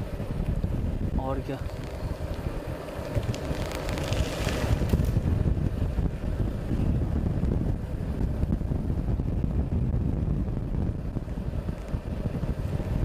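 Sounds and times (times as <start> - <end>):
vehicle engine and road noise: 0.0 - 13.0
wind buffeting microphone: 0.0 - 13.0.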